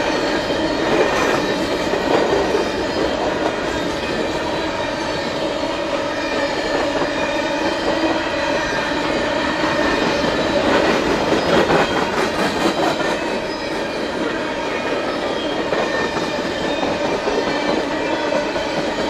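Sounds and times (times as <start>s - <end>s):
freight train wheel rumble: 0.0s - 19.0s.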